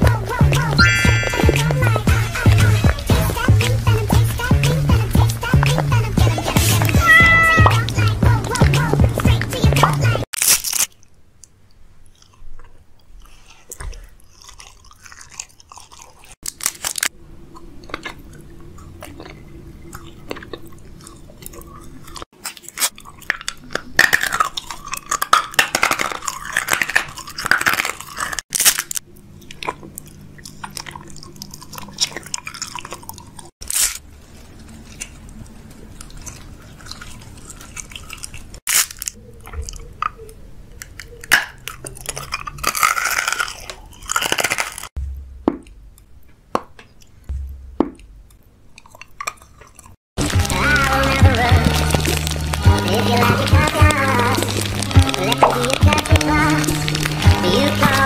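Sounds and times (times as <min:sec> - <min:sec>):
crunching and chewing sweets: 0:00.0 - 0:45.0, 0:45.6 - 0:58.0.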